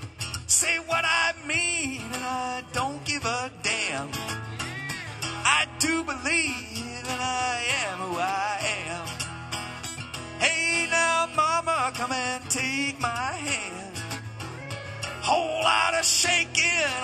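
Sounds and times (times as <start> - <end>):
man singing: 0.0 - 9.4, 10.4 - 17.0
acoustic guitar strumming: 0.0 - 17.0.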